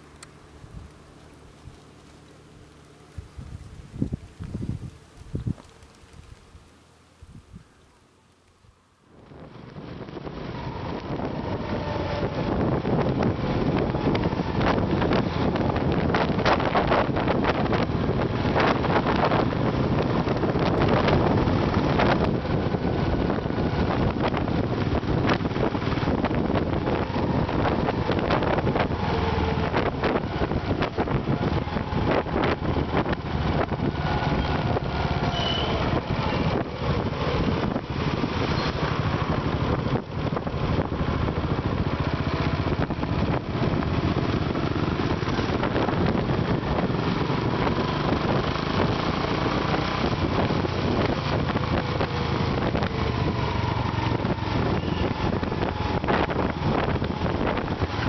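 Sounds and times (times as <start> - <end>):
wind buffeting microphone: 0.0 - 7.8, 9.1 - 58.0
motorcycle engine running: 9.4 - 58.0.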